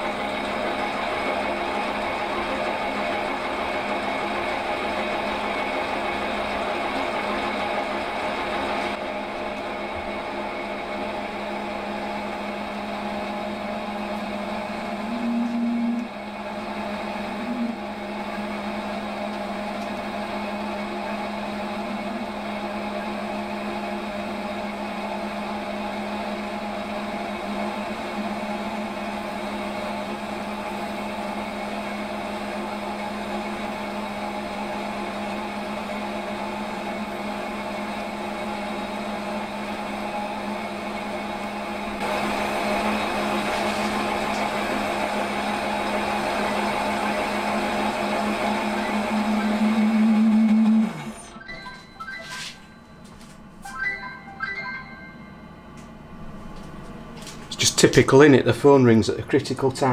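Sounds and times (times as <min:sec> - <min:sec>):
metal lathe motor whine: 0:00.0 - 0:53.3.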